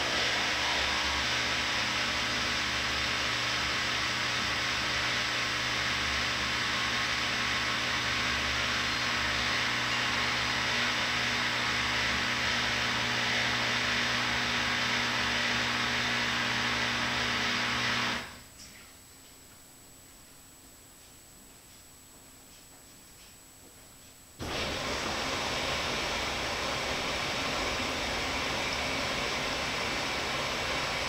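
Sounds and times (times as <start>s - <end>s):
washing machine hiss and hum: 0.0s - 19.1s, 24.2s - 31.0s.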